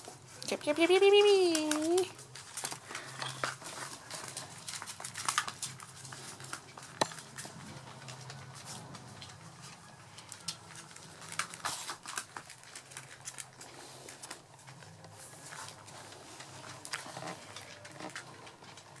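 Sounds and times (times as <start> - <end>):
puppy claws on tiled floor: 0.0 - 19.0.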